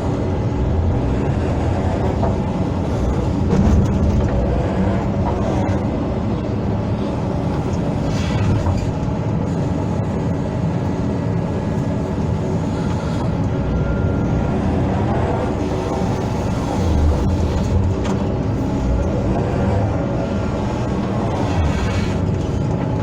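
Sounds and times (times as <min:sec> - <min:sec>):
excavator diesel engine: 0:00.0 - 0:23.0.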